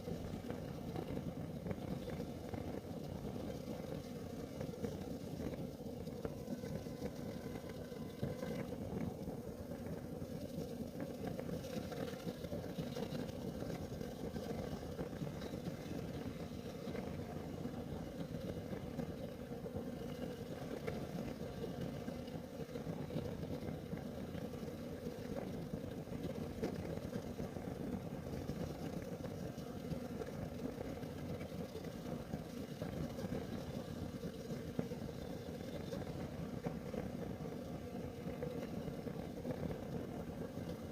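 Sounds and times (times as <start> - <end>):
heater burning with low rumble: 0.0 - 40.9.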